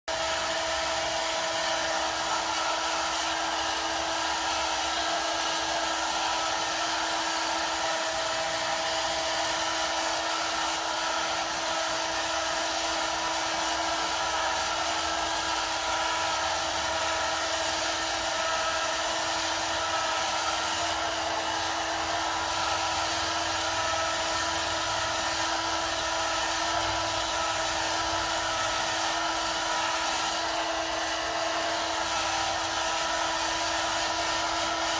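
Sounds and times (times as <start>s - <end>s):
heat gun blowing: 0.1s - 34.9s.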